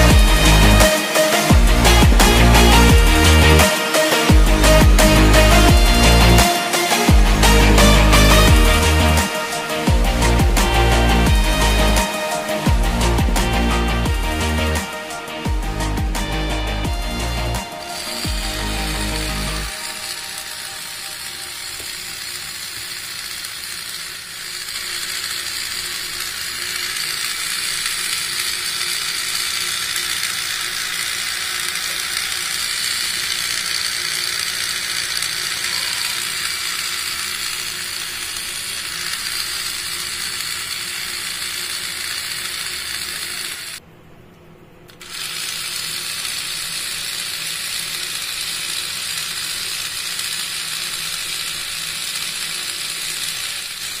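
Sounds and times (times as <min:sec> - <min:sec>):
small motor whirring: 0:00.0 - 0:43.8, 0:44.9 - 0:54.0.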